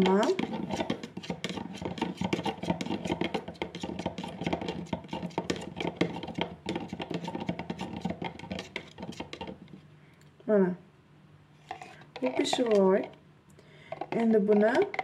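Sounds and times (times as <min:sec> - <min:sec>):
metal spoon scraping plastic jug: 0:00.0 - 0:09.8, 0:11.6 - 0:13.2, 0:13.9 - 0:15.0.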